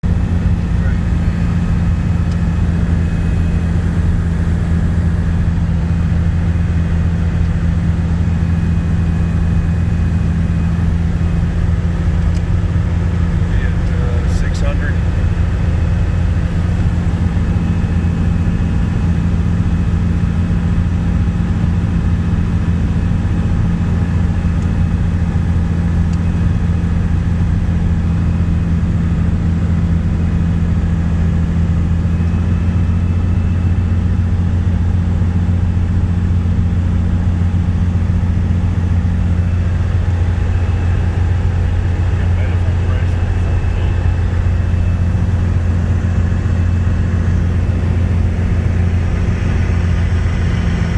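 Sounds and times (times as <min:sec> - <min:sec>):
propeller plane engine drone: 0:00.0 - 0:50.9.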